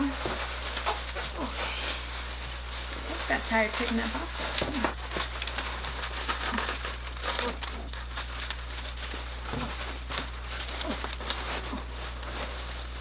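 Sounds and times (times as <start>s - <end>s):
packing paper crumpling: 0.0s - 13.0s.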